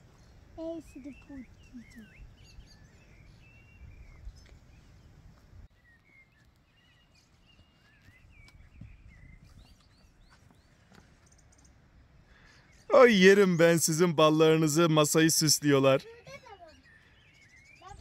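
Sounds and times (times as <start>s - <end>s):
songbirds singing and chirping: 0.0s - 18.0s.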